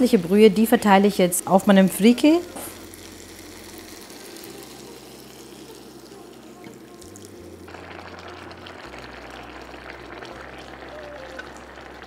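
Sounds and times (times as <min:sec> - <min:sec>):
liquid bubbling in pan: 0:00.0 - 0:12.0
broth pouring into pan: 0:01.6 - 0:12.0.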